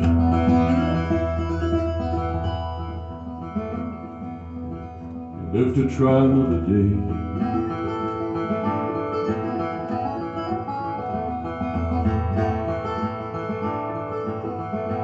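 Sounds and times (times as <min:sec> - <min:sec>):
acoustic guitar folk melody: 0:00.0 - 0:15.0.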